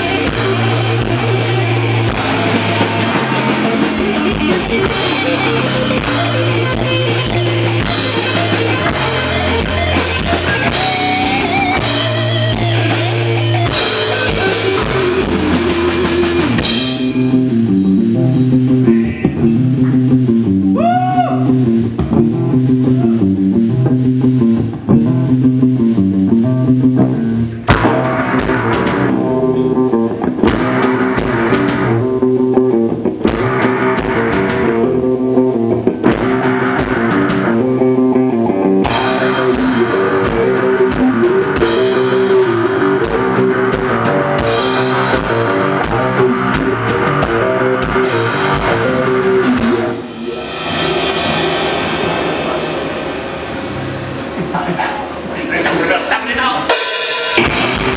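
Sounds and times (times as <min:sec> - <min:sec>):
drum kit playing: 0:00.0 - 0:57.9
electric guitar riff: 0:00.0 - 0:57.9.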